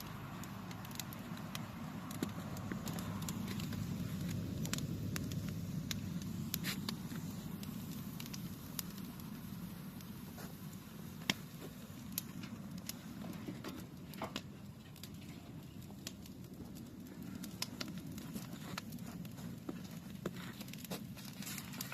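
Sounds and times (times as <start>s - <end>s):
burning wood crackling: 0.0s - 21.9s
low rumble of fire: 0.0s - 21.9s.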